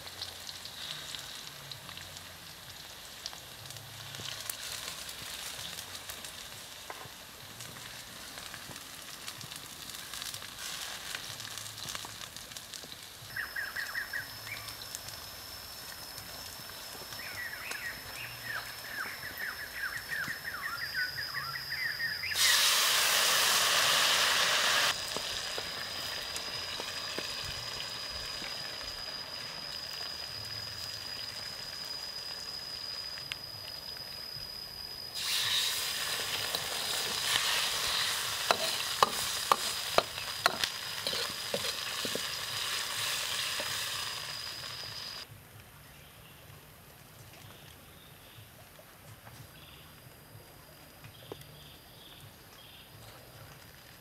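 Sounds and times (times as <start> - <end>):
oil sizzling in a hot wok: 0.0 - 45.3.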